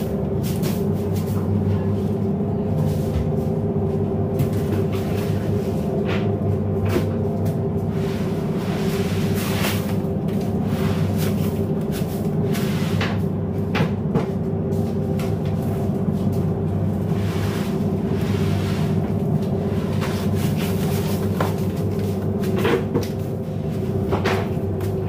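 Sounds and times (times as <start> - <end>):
boat engine drone: 0.0 - 25.0.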